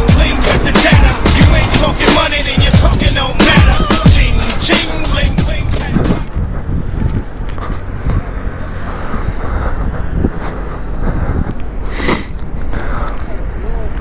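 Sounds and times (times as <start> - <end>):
low rumble of motor vehicles: 0.0 - 14.0.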